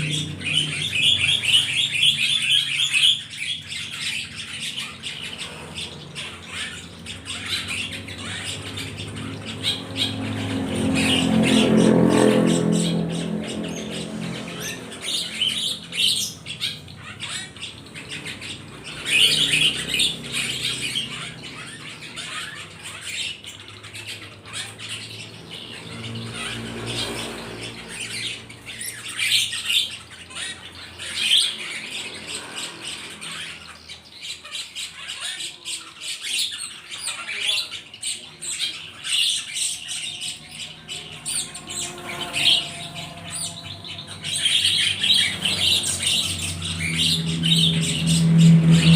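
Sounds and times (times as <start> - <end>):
birds squawking and chirping: 0.0 - 48.9.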